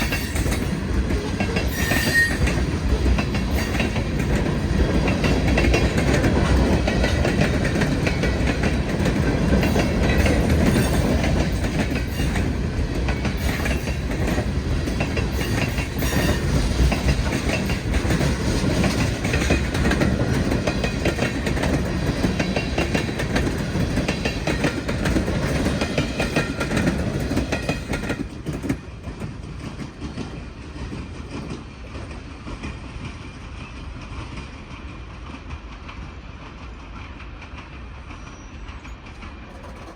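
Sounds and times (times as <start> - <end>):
train wheels clacking: 0.0 - 39.9.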